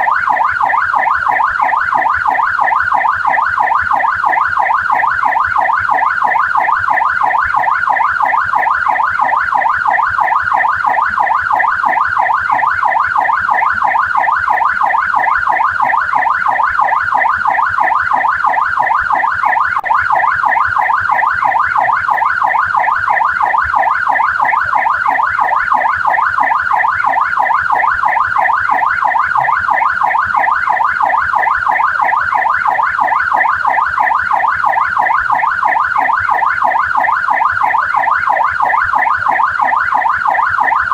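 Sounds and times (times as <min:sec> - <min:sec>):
police siren yelping: 0:00.0 - 0:40.9.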